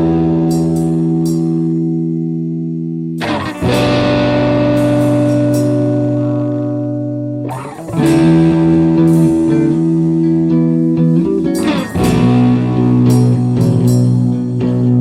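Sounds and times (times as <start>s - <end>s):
electric guitar chords over bass: 0.0s - 15.0s.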